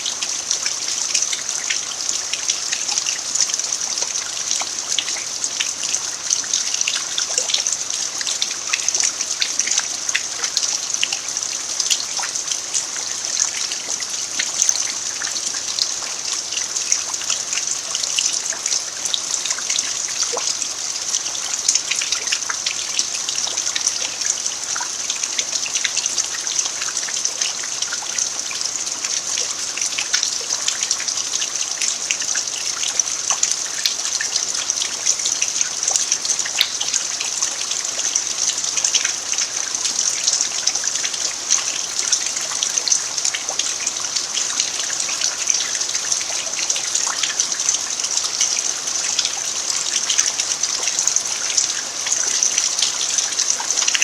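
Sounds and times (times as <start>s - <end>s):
rain falling on earth: 0.0s - 54.0s.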